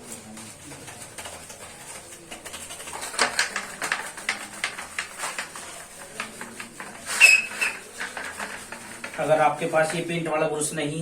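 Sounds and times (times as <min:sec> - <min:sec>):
paint brush scrubbing plastic: 0:00.0 - 0:10.8.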